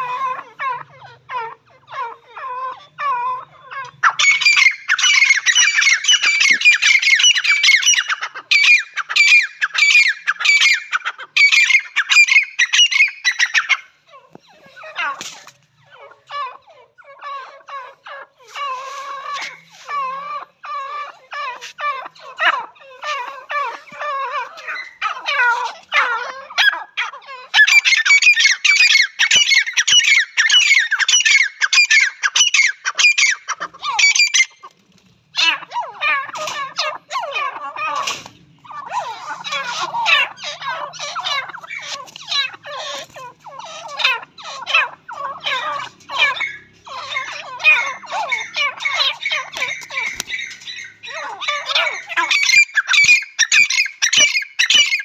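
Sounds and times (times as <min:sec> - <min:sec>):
francolins calling: 0:00.0 - 0:55.0.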